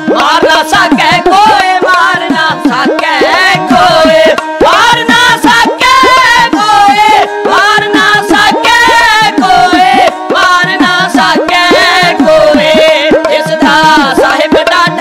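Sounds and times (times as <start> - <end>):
bowed string instrument: 0.0 - 15.0
men singing with vibrato: 0.0 - 15.0.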